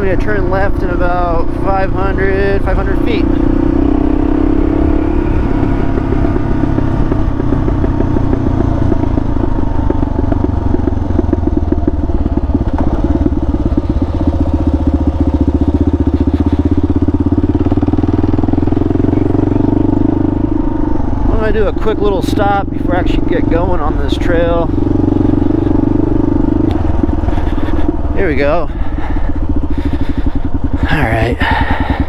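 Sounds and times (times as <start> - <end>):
motorcycle engine at low revs: 0.0 - 32.0.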